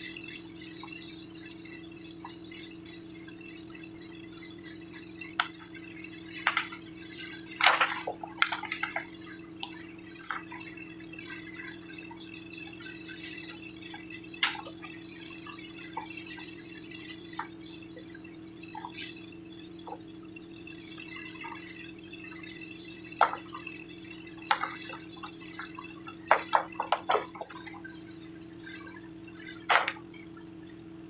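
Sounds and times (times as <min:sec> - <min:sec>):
hose water jet spraying mud: 0:00.0 - 0:31.0
low hum: 0:00.0 - 0:31.0.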